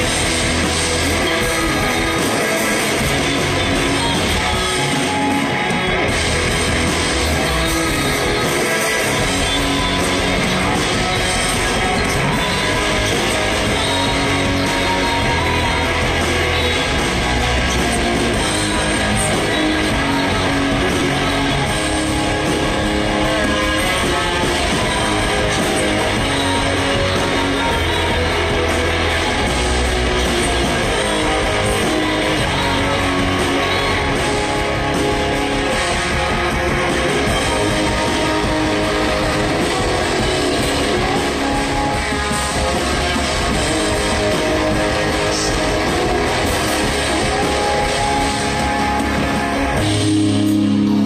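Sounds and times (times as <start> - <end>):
live rock band playing: 0.0 - 51.0.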